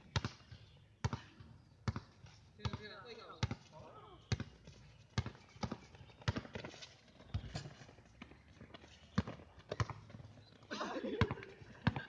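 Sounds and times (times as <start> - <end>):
basketball bouncing on concrete: 0.0 - 10.4, 11.0 - 12.0.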